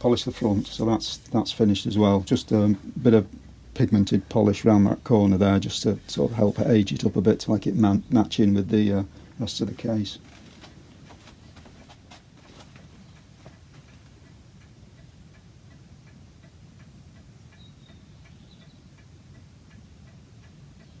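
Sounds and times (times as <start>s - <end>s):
clock ticking: 0.0s - 21.0s.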